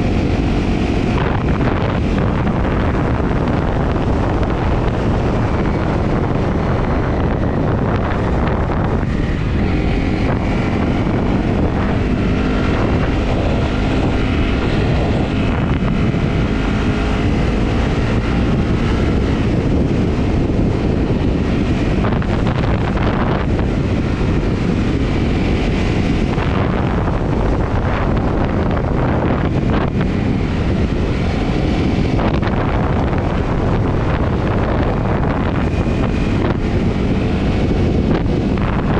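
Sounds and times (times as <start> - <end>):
motorcycle engine running: 0.0 - 38.9
wind buffeting on microphone: 0.0 - 38.9.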